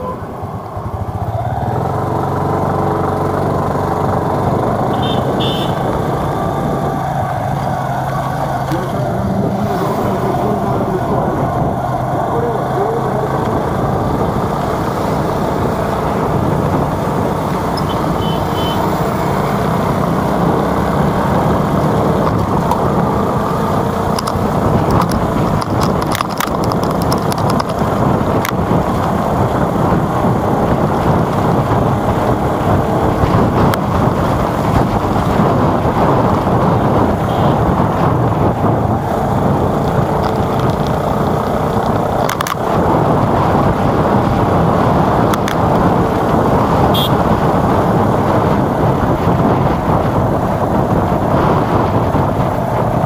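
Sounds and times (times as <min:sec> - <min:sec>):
engine and road noise: 0:00.0 - 0:53.0.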